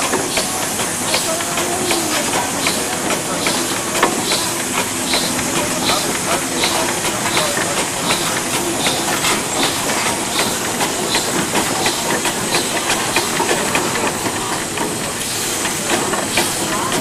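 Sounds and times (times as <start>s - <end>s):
steam engine exhaust chuffing: 0.0s - 17.0s
steam hissing: 0.0s - 17.0s.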